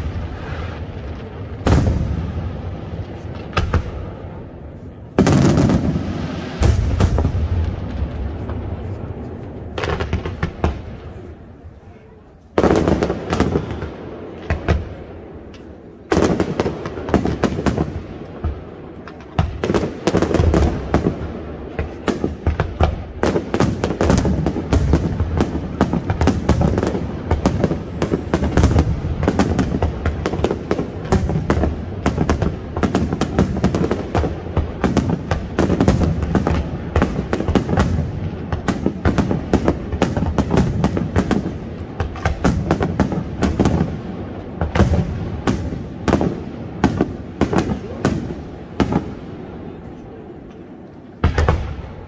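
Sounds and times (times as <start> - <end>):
barrage of bangs and crackling: 0.0 - 4.3, 5.1 - 11.3, 12.6 - 49.5, 51.2 - 52.0.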